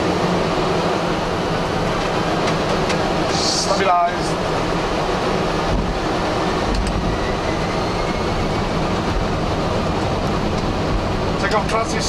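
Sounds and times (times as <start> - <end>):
jet engines spooling up: 0.0 - 12.0.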